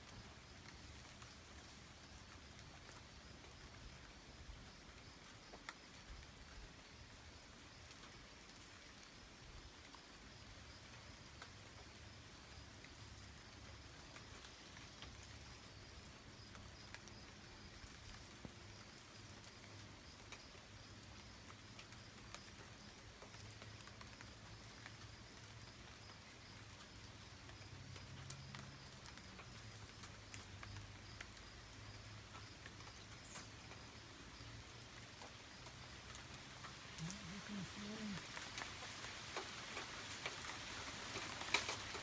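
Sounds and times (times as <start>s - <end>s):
rain pattering: 0.0s - 42.0s.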